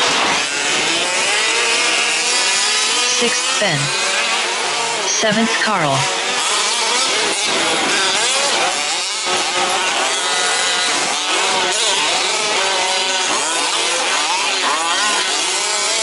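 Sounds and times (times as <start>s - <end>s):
rc truck engines buzzing: 0.0s - 16.0s.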